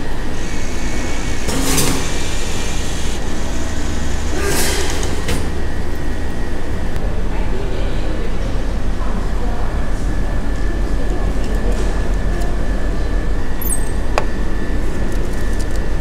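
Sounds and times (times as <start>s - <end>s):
vending machine hum and whine: 0.0s - 16.0s.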